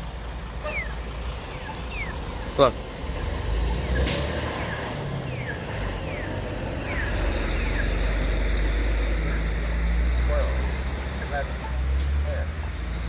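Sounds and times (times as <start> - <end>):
crosswalk signal chirps: 0.0 - 13.0
road traffic rumble: 0.0 - 13.0.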